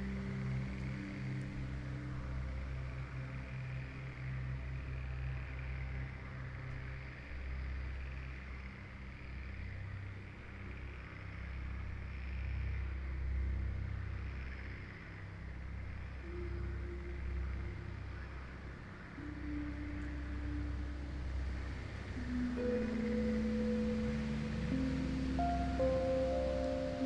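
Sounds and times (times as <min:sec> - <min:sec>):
ambient music of low held tones: 0:00.0 - 0:27.0
high insect chorus: 0:00.0 - 0:27.0.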